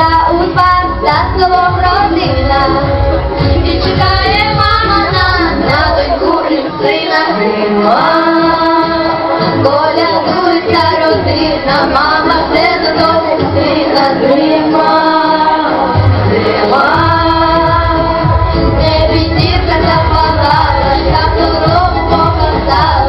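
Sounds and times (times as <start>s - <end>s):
musical accompaniment: 0.0s - 23.0s
women singing: 0.0s - 23.0s.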